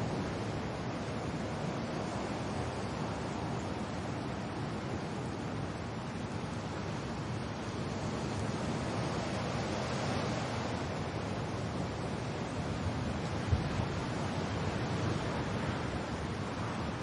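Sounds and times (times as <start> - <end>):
rain with wind: 0.0 - 17.0.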